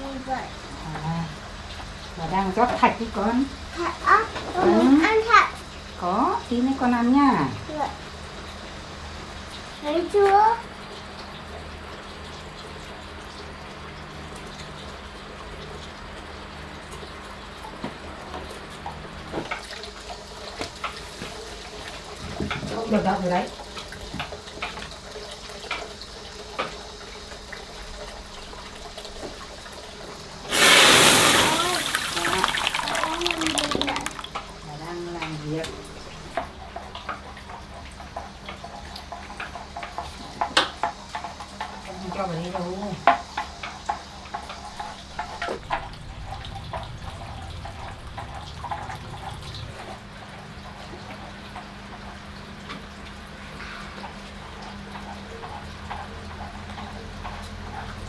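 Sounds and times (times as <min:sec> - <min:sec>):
liquid trickling: 0:00.0 - 0:58.0.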